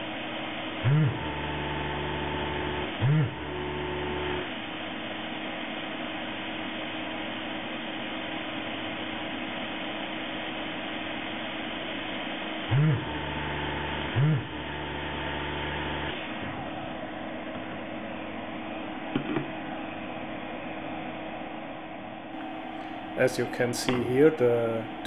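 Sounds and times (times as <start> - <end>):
vacuum pump whirring and humming: 0.0 - 25.0.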